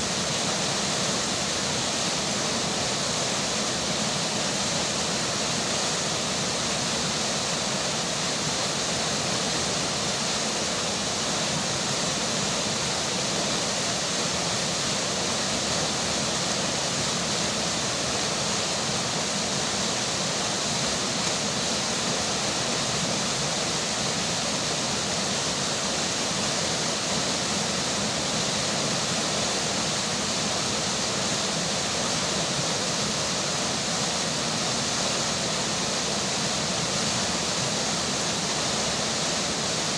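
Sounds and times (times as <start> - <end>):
rainfall: 0.0 - 39.9
river water rushing: 0.0 - 39.9.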